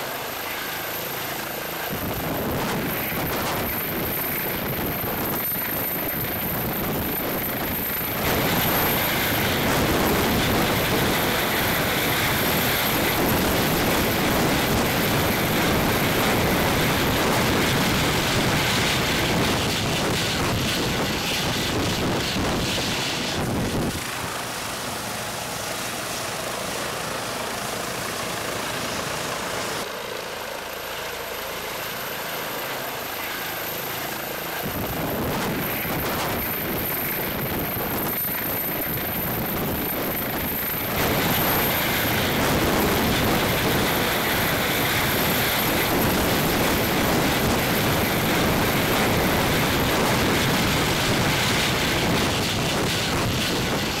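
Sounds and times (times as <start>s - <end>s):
helicopter turbine and rotor: 0.0s - 54.0s.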